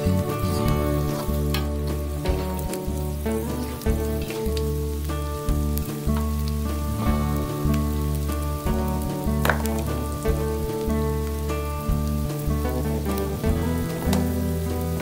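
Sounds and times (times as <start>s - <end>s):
food sizzling in a wok: 0.0s - 15.0s
instrumental background music: 0.0s - 15.0s.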